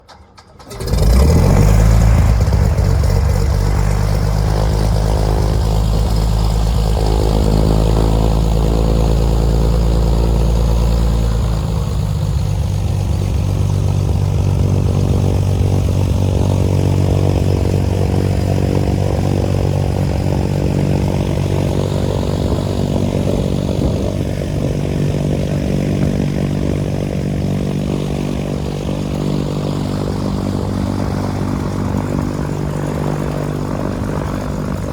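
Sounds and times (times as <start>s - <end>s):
propeller plane engine running: 0.0s - 34.9s.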